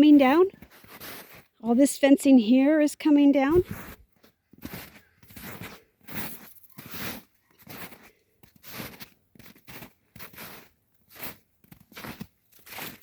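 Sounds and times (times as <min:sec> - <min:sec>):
footsteps crunching through snow: 0:00.0 - 0:01.6, 0:03.5 - 0:13.0.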